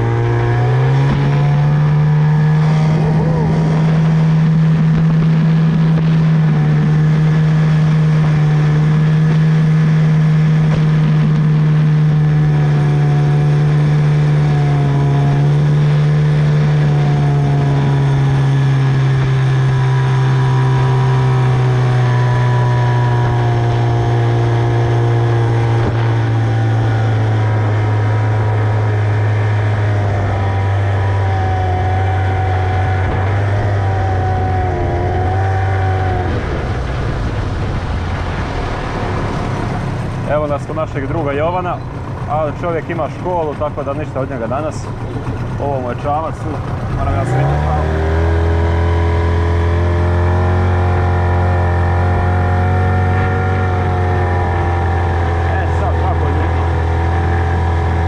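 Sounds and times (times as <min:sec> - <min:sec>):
outboard motor droning: 0:00.0 - 0:58.0.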